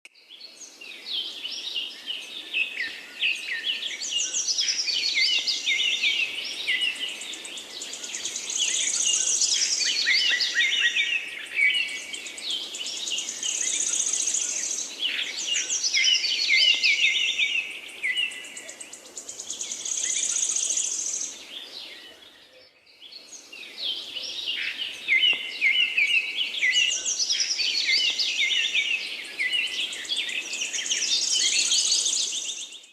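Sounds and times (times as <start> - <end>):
small birds chirping and trilling: 0.2 - 32.9
soft steady hiss: 0.2 - 32.9.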